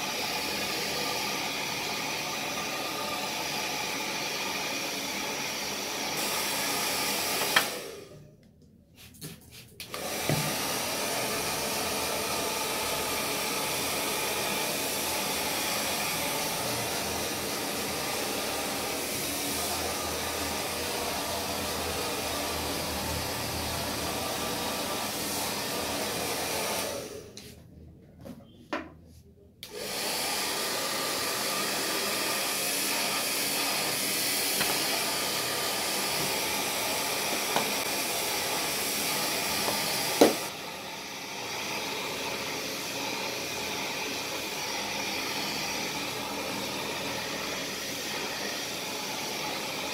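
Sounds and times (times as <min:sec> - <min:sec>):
hair dryer blowing: 0:00.0 - 0:08.2, 0:09.7 - 0:27.6, 0:29.6 - 0:49.9.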